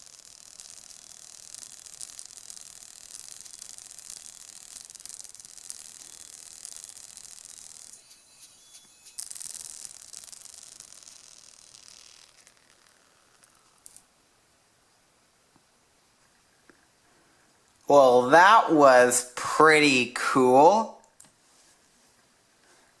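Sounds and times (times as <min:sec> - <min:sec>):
earbud speaker hissing and crackling: 0:00.0 - 0:23.0.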